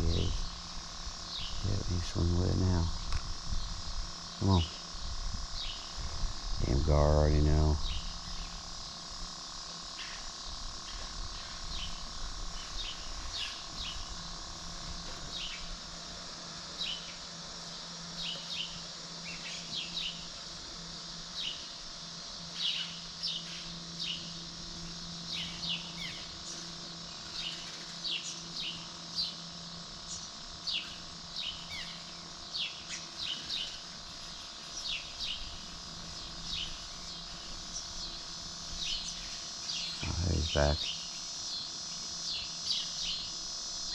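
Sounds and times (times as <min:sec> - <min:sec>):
faint low hum: 0:00.0 - 0:41.2
steady high hiss: 0:00.0 - 0:43.9.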